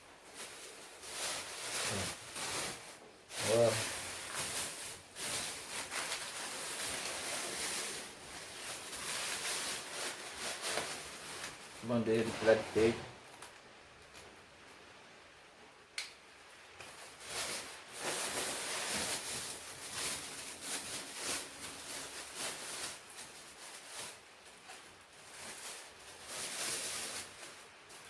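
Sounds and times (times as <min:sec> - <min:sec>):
plastic packaging crinkling: 0:00.0 - 0:14.2, 0:16.8 - 0:28.0.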